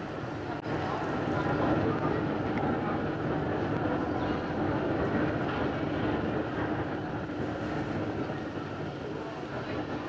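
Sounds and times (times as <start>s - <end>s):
faint steady hum: 0.0s - 10.0s
jet engines running: 0.0s - 10.0s.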